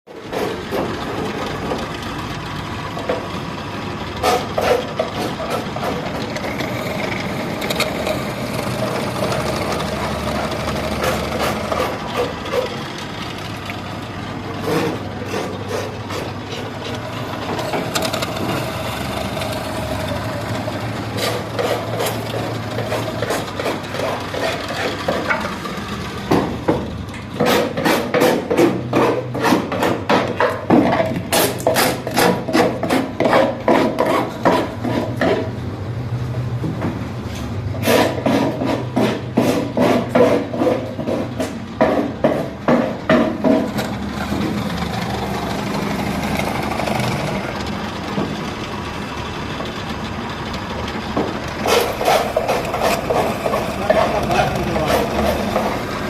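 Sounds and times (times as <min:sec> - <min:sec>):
machine running steadily: 0:00.1 - 0:56.0.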